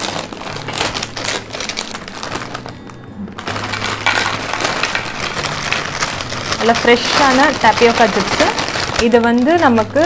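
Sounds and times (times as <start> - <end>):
background music: 0.0 - 10.0
crinkling snack packet: 0.0 - 10.0.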